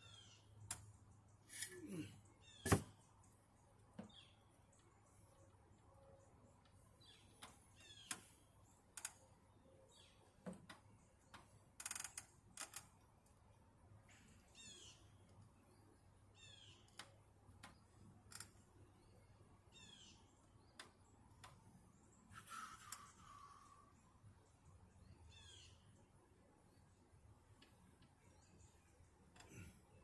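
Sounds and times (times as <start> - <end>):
faint bird chirping: 0.0 - 12.8, 13.4 - 30.0.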